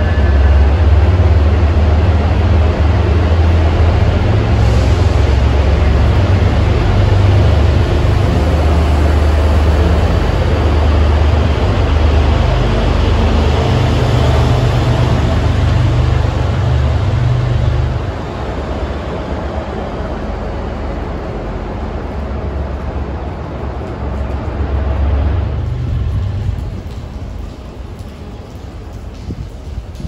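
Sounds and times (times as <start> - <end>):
diesel locomotive drone: 0.0 - 30.0
wheel and rail rumble: 0.0 - 30.0.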